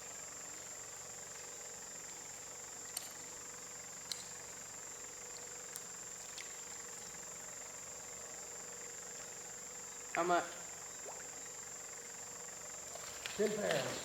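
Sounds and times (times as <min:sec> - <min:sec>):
night insect drone: 0:00.0 - 0:14.0.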